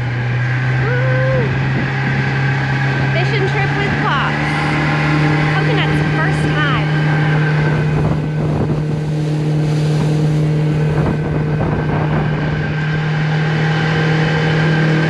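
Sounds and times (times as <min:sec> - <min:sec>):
motorboat engine running: 0:00.0 - 0:15.0
water noise: 0:00.0 - 0:15.0
wind noise: 0:00.0 - 0:15.0.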